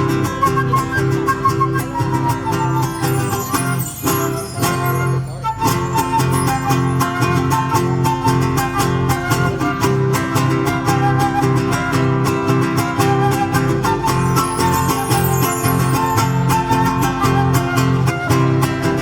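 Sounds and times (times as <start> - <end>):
folk band with strummed guitars: 0.0 - 19.0.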